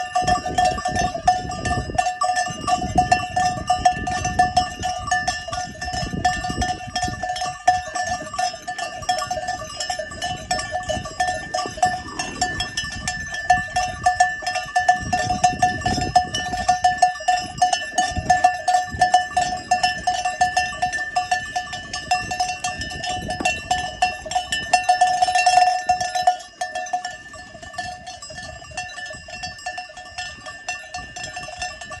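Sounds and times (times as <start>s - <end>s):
sheep bells clanking: 0.0s - 32.0s.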